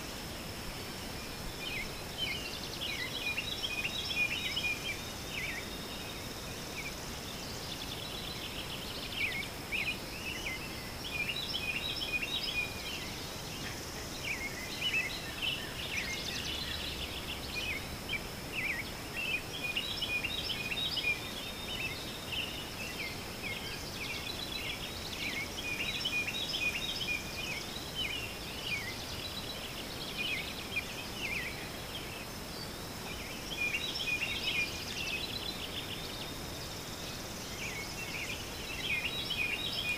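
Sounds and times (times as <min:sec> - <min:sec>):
faint outdoor background noise: 0:00.0 - 0:39.9
small birds chirping and trilling: 0:00.0 - 0:39.9.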